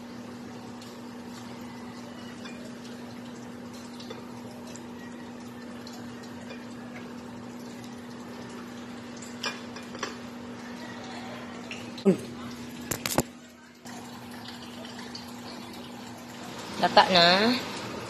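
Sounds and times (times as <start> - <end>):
water boiling and bubbling: 0.0 - 18.0.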